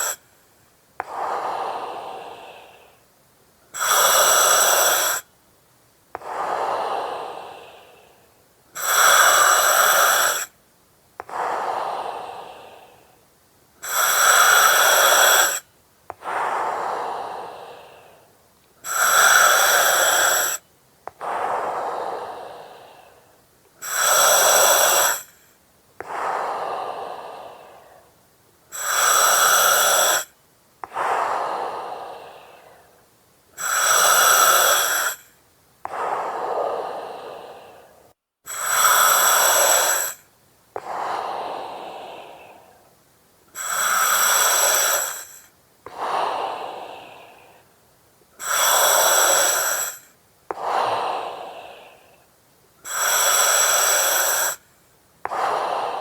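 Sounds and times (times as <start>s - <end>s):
breathing through oxygen mask regulator: 0.0s - 0.3s, 1.0s - 3.1s, 3.7s - 5.3s, 6.2s - 10.6s, 11.2s - 13.2s, 13.8s - 42.9s, 43.5s - 47.8s, 48.4s - 56.0s.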